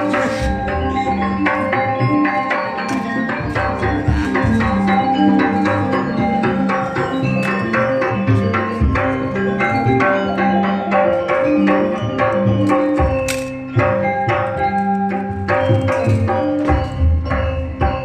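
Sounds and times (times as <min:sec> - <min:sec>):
music with drum and mallet percussion: 0:00.0 - 0:18.0.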